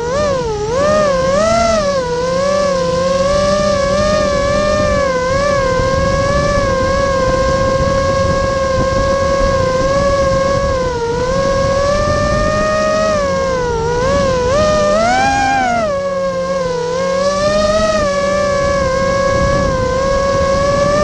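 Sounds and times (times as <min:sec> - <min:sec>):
prop wash rushing: 0:00.0 - 0:21.0
quadcopter motors whining: 0:00.0 - 0:21.0.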